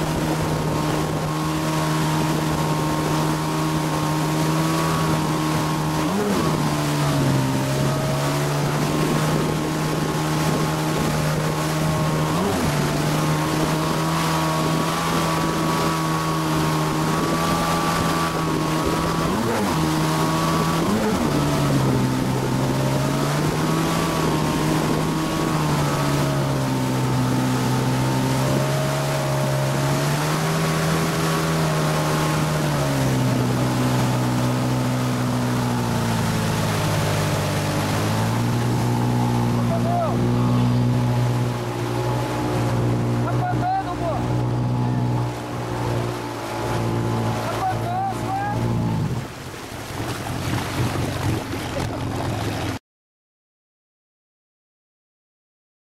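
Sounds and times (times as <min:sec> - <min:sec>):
churning wake water and wind: 0:00.0 - 0:52.8
motorboat engine hum: 0:00.0 - 0:52.8.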